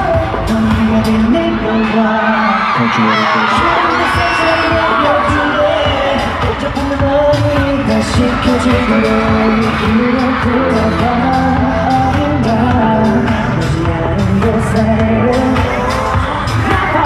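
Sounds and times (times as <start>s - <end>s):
live pop music with singing: 0.0s - 17.0s.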